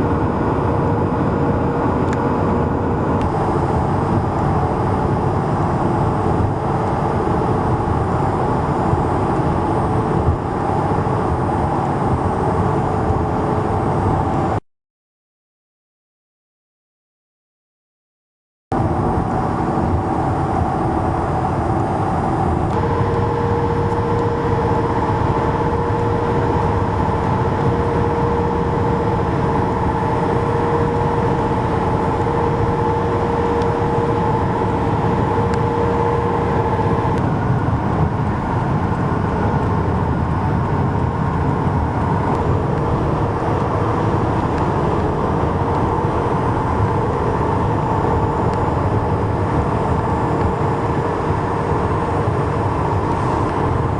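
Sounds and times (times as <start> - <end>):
highway traffic rumble: 0.0 - 14.6, 18.7 - 53.9
steady hum: 0.0 - 14.6, 18.7 - 53.9.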